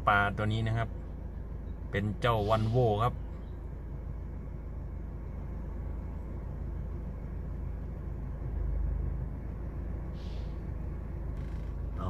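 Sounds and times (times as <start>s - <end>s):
diesel truck rumbling: 0.0s - 12.0s.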